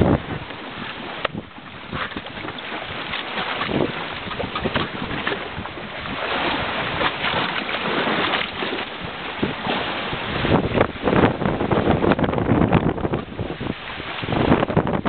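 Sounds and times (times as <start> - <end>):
water splashing against boat hull: 0.0 - 15.0
wind buffeting microphone: 0.0 - 15.0.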